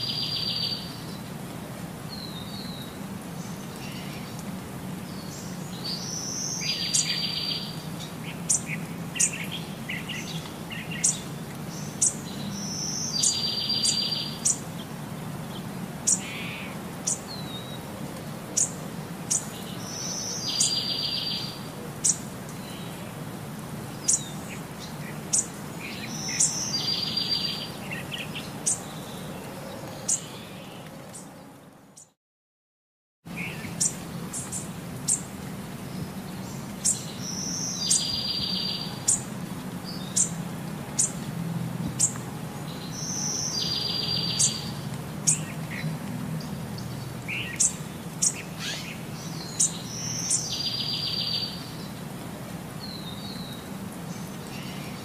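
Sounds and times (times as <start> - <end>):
birds chirping: 5.0 - 23.2, 23.9 - 32.2, 33.3 - 41.3, 42.0 - 52.1.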